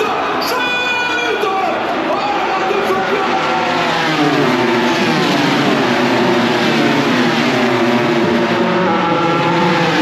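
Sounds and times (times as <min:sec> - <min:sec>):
racing motorcycle engines: 0:00.0 - 0:10.0.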